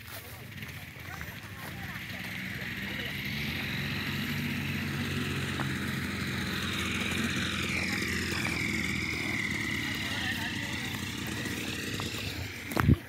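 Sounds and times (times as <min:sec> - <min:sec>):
engine running: 0:00.0 - 0:13.0
high whine: 0:00.0 - 0:13.0.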